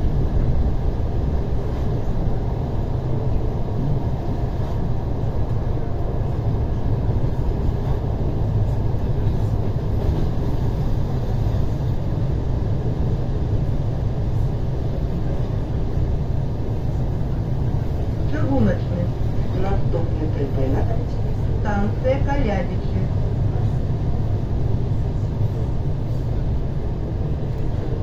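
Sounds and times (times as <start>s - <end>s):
train carriage rumble on rails: 0.0s - 28.0s.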